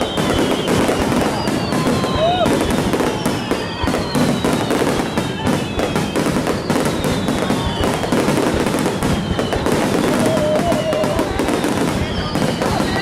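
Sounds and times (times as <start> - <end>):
firework whistles falling in pitch: 0.0 - 13.0
fireworks crackling and popping: 0.0 - 13.0.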